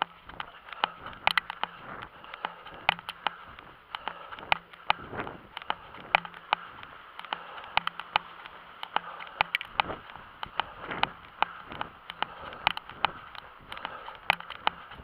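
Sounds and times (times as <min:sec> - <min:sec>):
handheld camera knocks and rustle: 0:00.0 - 0:15.0
running footsteps on asphalt: 0:00.0 - 0:15.0
wind hiss: 0:00.0 - 0:15.0.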